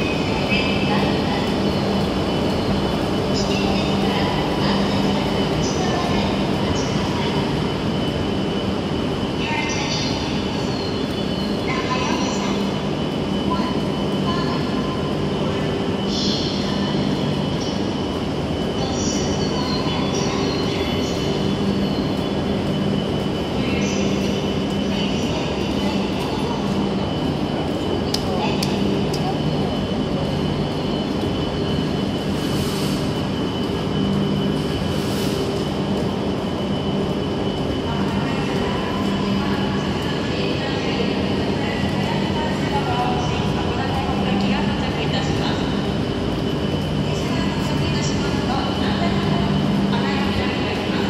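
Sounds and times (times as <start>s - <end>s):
station noise: 0.0s - 51.0s
train humming at platform: 0.0s - 51.0s.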